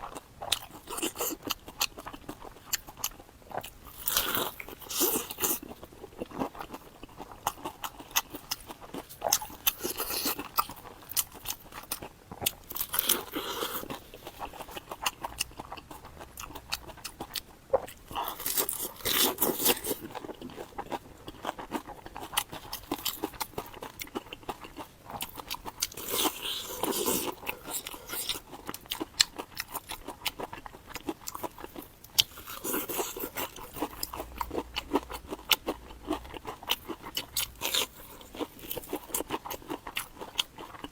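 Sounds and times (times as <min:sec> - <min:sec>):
crunching bites and chewing: 0:00.0 - 0:40.9.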